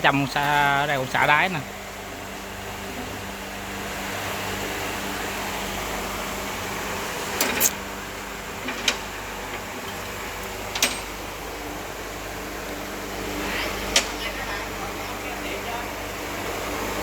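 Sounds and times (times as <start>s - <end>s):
workshop hum: 0.0s - 17.0s.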